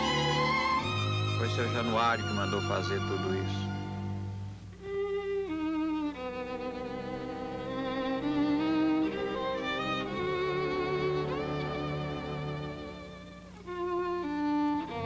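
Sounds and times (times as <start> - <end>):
bowed violin slow melody: 0.0 - 15.0
low sustained accompaniment: 0.0 - 15.0.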